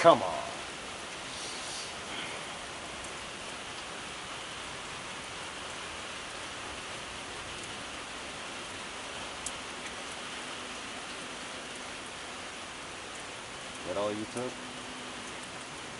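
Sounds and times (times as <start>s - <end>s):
steady rain hiss: 0.0s - 15.9s.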